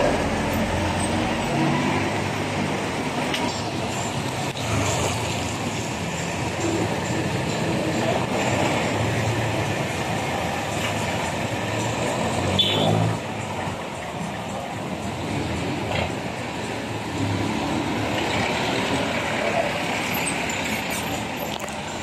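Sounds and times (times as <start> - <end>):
street traffic engines and tyres: 0.0 - 22.0.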